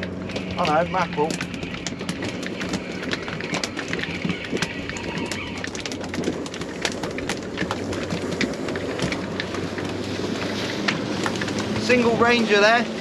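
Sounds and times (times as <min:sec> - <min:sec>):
sea noise: 0:00.0 - 0:13.0
wind: 0:00.0 - 0:13.0.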